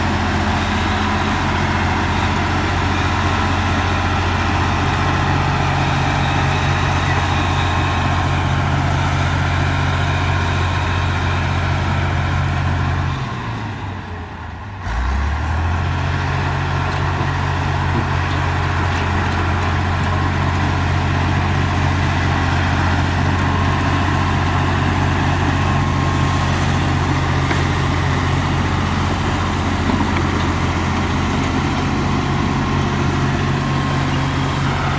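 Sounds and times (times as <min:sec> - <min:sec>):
bulldozer diesel engine running: 0:00.0 - 0:34.9.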